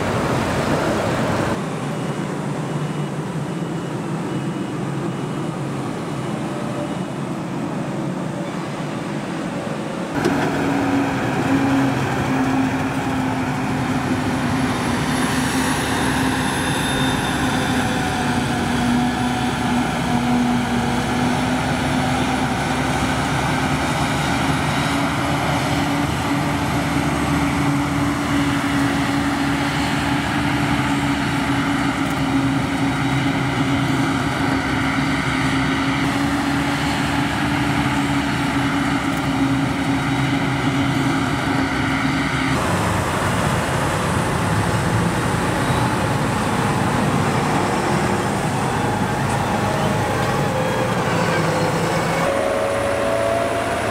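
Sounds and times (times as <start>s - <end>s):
harvester and tractor engines droning: 0.0s - 53.9s.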